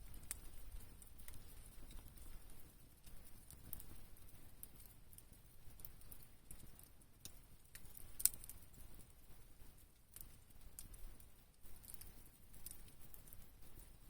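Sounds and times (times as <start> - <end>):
burning wood popping: 0.0 - 14.0
campfire crackling: 0.0 - 14.0.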